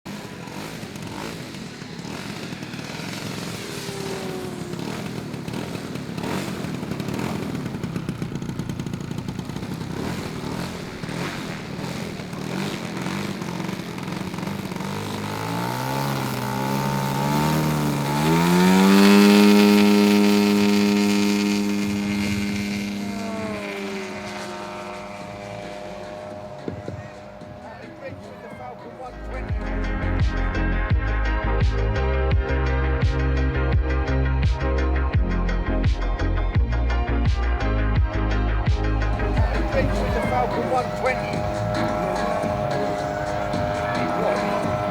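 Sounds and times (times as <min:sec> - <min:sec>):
model plane engine in flight: 0:00.0 - 0:30.5, 0:38.9 - 0:44.9.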